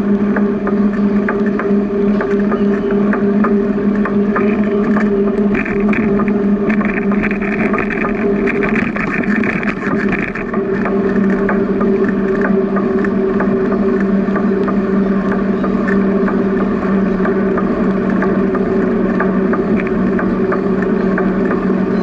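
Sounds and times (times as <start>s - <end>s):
bicycle rolling hum: 0.0s - 22.0s.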